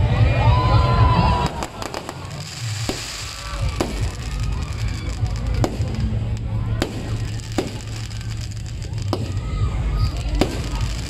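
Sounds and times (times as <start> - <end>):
background music: 0.0 - 11.0
fireworks bangs and pops: 1.2 - 11.0.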